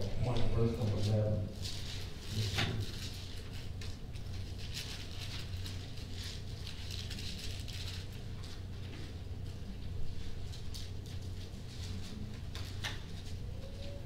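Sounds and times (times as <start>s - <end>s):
steady low hum: 0.0s - 14.0s
thin paper pages rustling: 0.8s - 13.5s.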